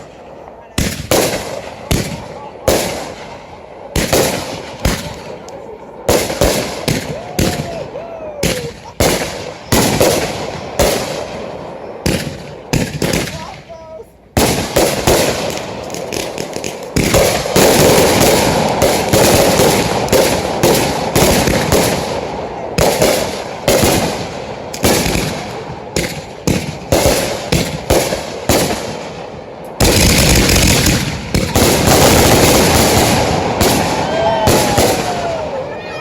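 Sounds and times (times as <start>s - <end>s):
fireworks bursting: 0.0s - 36.0s
sharp firework reports: 0.0s - 36.0s.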